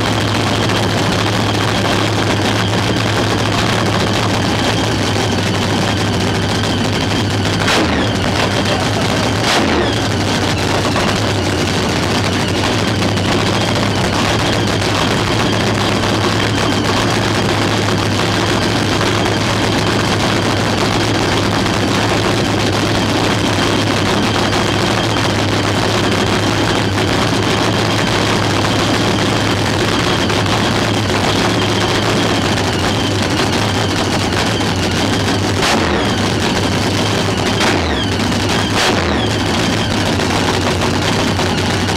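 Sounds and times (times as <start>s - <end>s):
engine cackling at idle: 0.0s - 41.9s
sharp engine crack: 0.0s - 41.9s.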